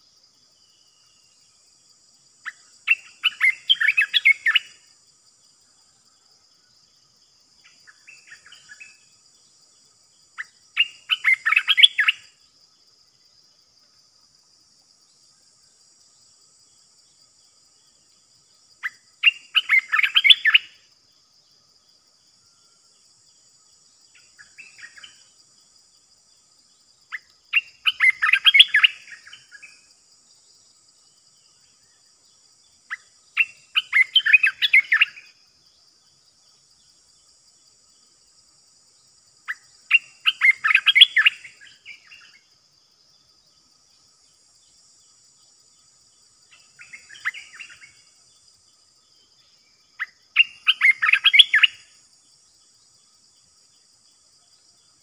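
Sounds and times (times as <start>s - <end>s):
high insect whine: 0.0s - 55.0s.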